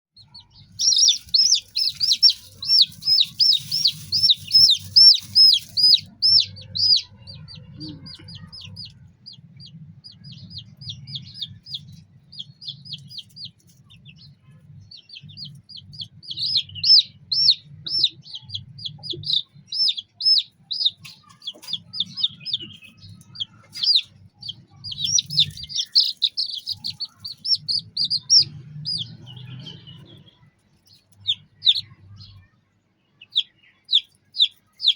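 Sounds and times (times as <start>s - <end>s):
chicks peeping: 0.2s - 34.9s.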